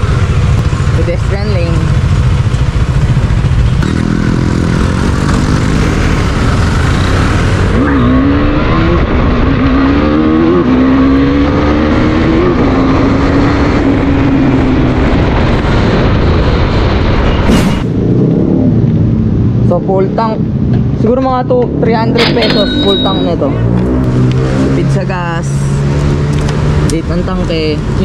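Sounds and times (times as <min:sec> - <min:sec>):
motorcycle engine accelerating: 0:00.0 - 0:17.2, 0:21.6 - 0:27.1
wind and road noise: 0:00.0 - 0:28.0.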